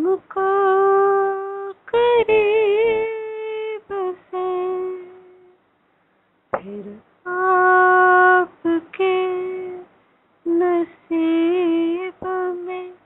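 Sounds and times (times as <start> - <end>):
woman singing wordless notes: 0.0 - 5.6, 6.6 - 13.0.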